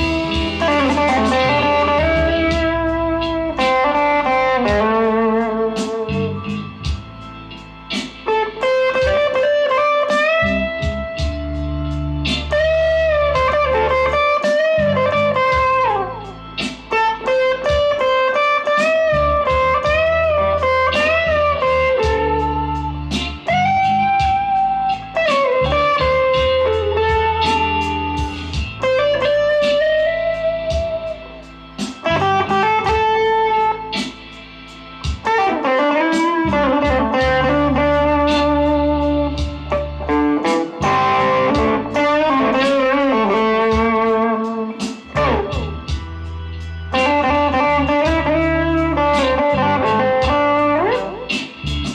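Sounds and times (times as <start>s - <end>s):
electric guitar lead melody: 0.0s - 51.9s.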